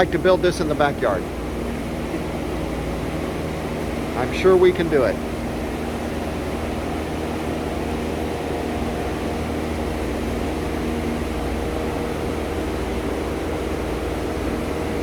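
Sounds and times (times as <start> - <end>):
machine hum and rushing air: 0.0 - 15.0.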